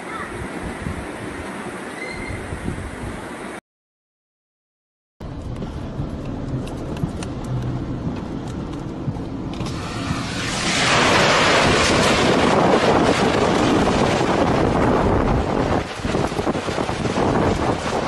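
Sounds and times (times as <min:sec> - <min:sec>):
wind blasting microphone: 0:00.3 - 0:03.4, 0:05.2 - 0:18.0.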